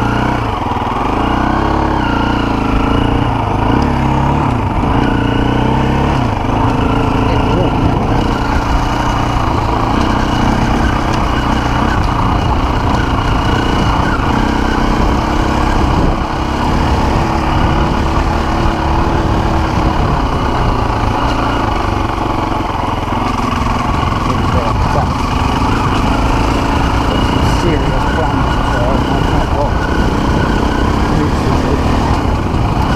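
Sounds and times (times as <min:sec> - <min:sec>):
dirt bike engine running: 0:00.0 - 0:32.9.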